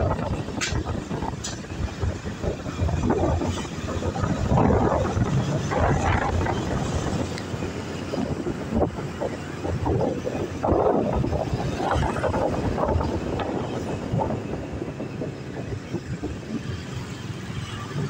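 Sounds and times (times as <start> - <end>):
motorbike road noise: 0.0 - 18.0
wind buffeting the microphone: 0.0 - 18.0.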